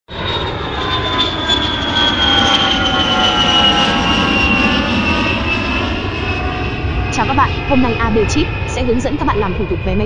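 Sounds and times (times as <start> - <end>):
jet airliner flying past: 0.1 - 10.0.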